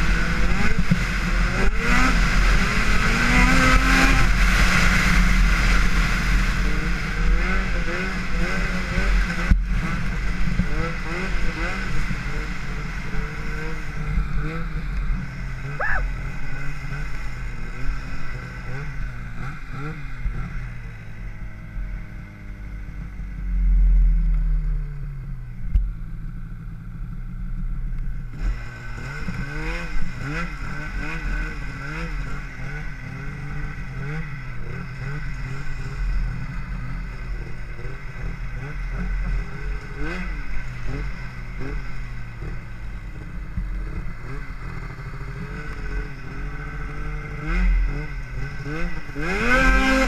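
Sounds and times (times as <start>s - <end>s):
snowmobile engine revving: 0.0s - 24.8s, 28.2s - 50.0s.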